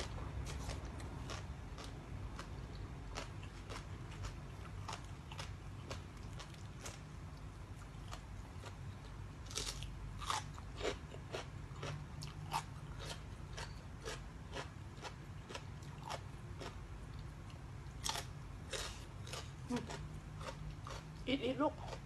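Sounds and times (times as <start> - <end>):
person chewing crunchy food: 0.0 - 21.2.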